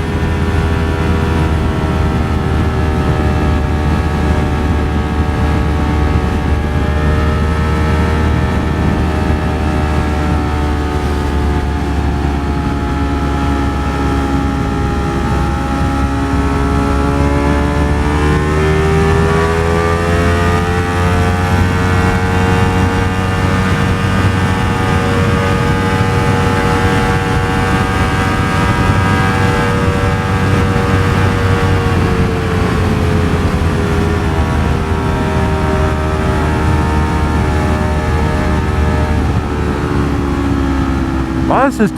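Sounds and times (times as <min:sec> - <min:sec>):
heavy wind rumble: 0:00.0 - 0:41.9
motorcycle engine running: 0:00.0 - 0:41.9.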